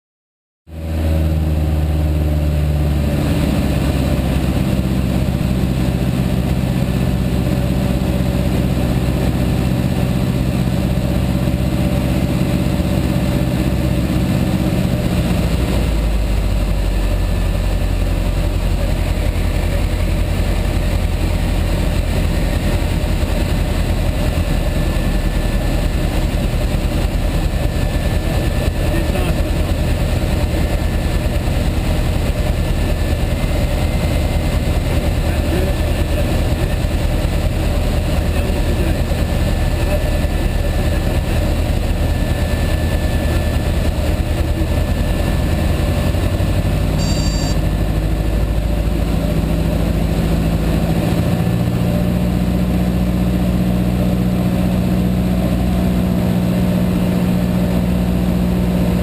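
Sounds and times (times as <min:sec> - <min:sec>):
propeller plane engine: 0:00.7 - 0:59.0.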